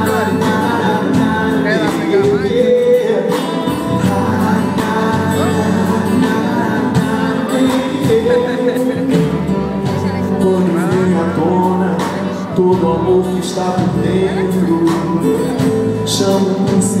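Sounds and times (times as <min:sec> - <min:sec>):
live band playing pop song: 0:00.0 - 0:17.0.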